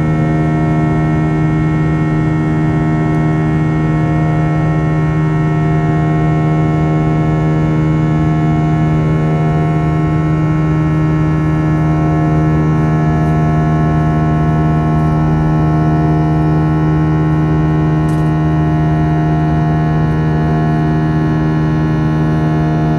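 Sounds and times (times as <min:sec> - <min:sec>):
jet engines droning in cabin: 0:00.0 - 0:22.9.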